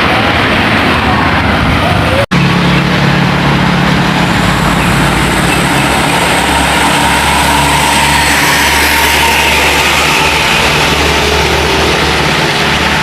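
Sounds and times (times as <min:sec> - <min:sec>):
diesel engine driving past: 0:00.0 - 0:13.0
road and tyre noise: 0:00.0 - 0:13.0.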